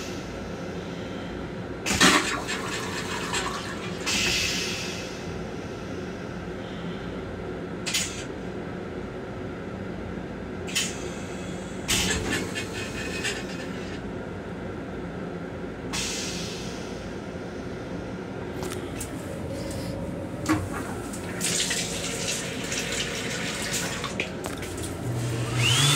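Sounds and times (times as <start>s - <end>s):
railcar low rumble with hum: 0.0s - 25.8s.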